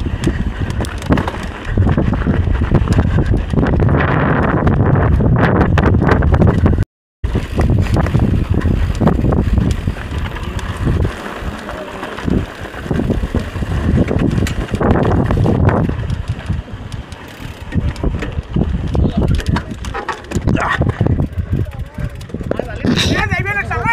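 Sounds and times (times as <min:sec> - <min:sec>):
mountain bike clattering on trail: 0:00.0 - 0:23.9
wind buffeting microphone: 0:00.0 - 0:23.9.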